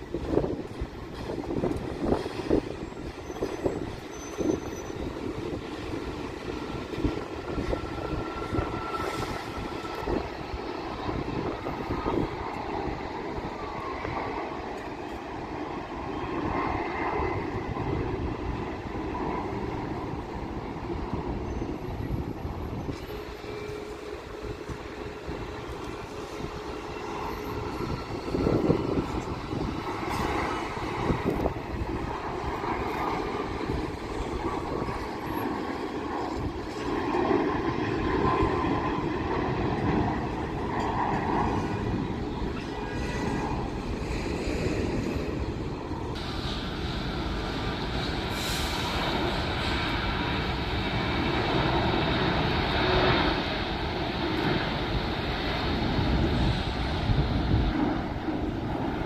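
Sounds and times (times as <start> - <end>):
high engine whine: 0.0 - 59.0
jet engines rumbling: 0.0 - 59.0.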